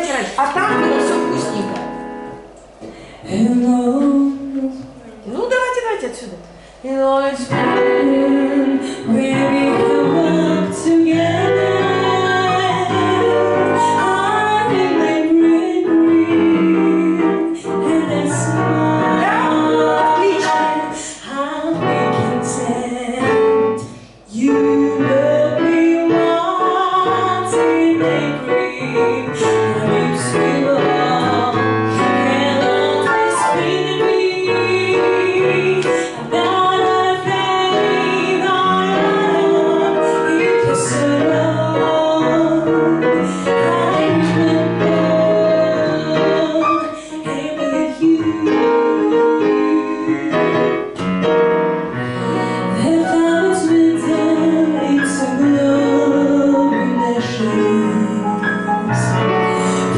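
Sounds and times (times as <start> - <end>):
digital piano: 0.0 - 59.9
woman singing jazz: 0.0 - 59.9.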